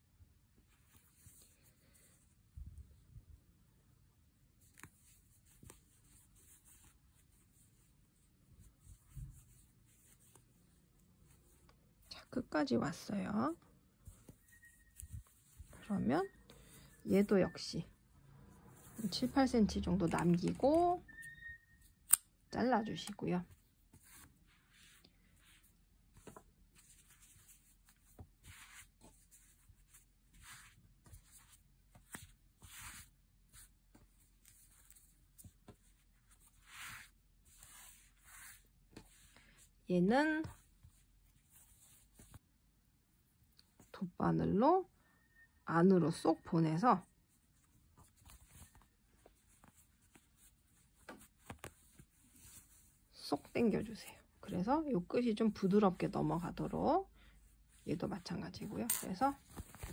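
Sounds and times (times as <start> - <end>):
hands rustling yarn: 0.0 - 44.1, 46.2 - 59.9.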